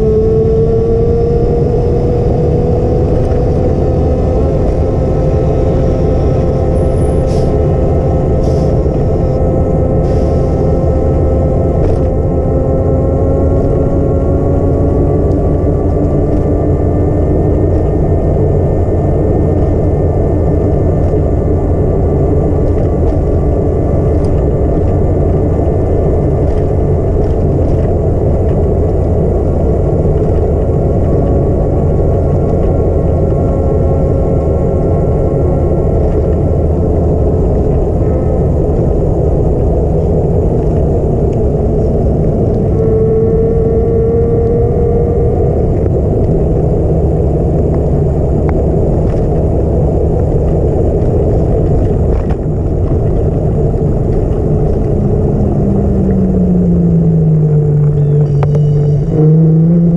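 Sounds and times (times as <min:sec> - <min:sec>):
road and wind noise: 0:00.0 - 0:59.9
vehicle engine rumble: 0:00.0 - 0:59.9.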